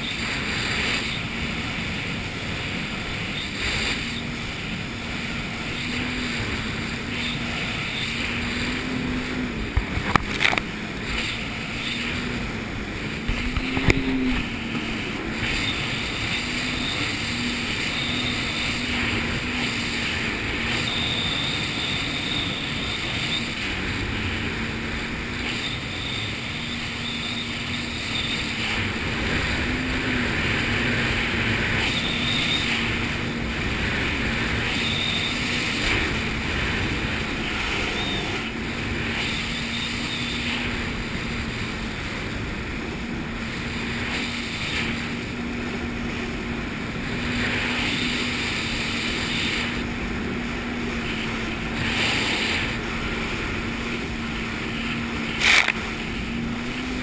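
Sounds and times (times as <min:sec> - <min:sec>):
jet ski engine droning: 0:00.0 - 0:57.0
rushing wind: 0:00.0 - 0:57.0
water noise: 0:00.0 - 0:57.0.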